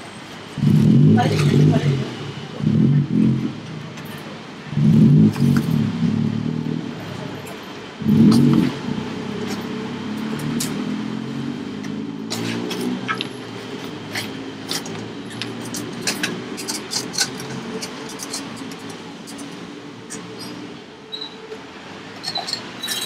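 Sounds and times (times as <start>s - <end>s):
vehicle engine running close: 0.0s - 23.0s.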